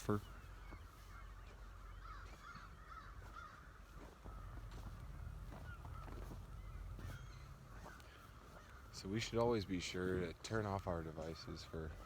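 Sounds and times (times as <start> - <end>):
distant crows cawing: 0.0 - 12.0.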